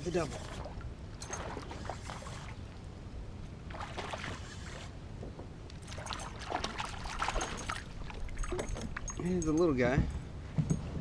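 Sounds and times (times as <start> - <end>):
water splashing and trickling: 0.0 - 5.0, 5.7 - 10.0.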